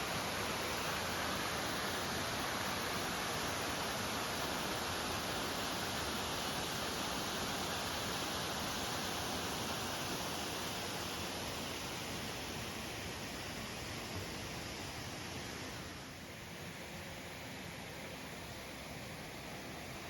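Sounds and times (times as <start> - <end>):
small waterfall rushing: 0.0 - 20.0.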